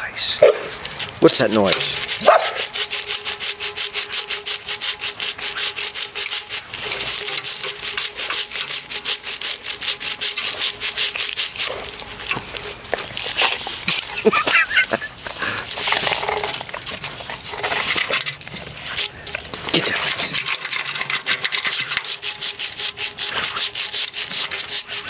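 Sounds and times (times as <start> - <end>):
dog claws scraping ice: 0.4 - 25.0.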